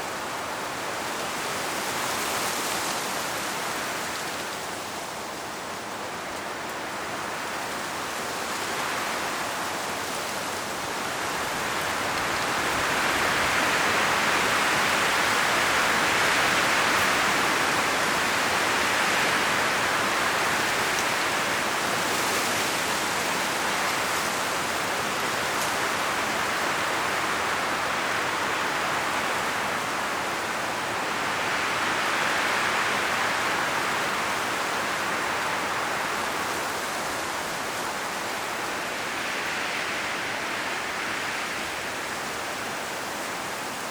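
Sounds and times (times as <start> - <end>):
wind rushing through tree leaves: 0.0 - 43.9.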